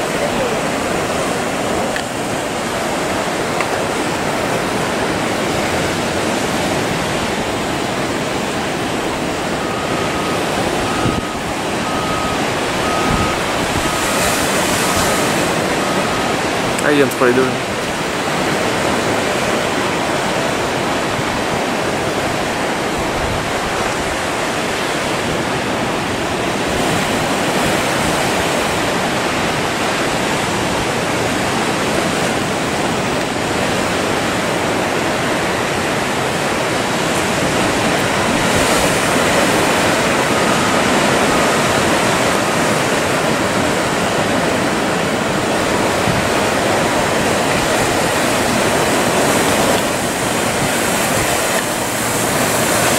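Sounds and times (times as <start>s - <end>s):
surf rushing: 0.0s - 52.9s.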